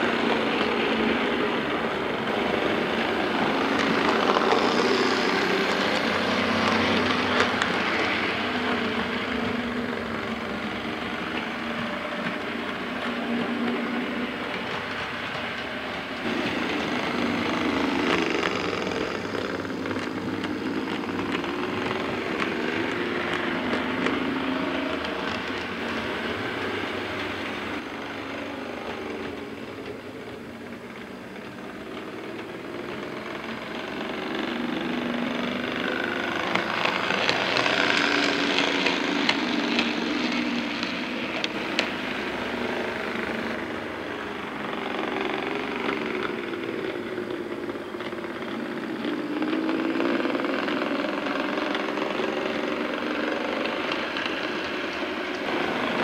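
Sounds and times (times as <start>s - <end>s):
clicks over rail joints: 0.0s - 56.0s
model train motor hum: 0.0s - 56.0s.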